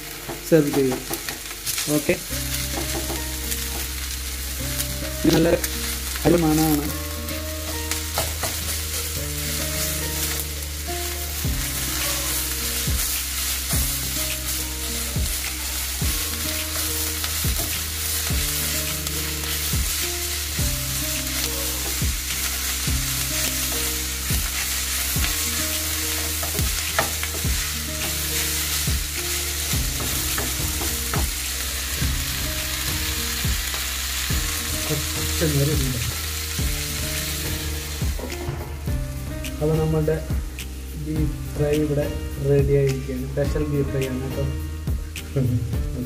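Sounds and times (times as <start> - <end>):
meat sizzling in a pan: 0.0 - 45.8
low background music: 0.0 - 46.0.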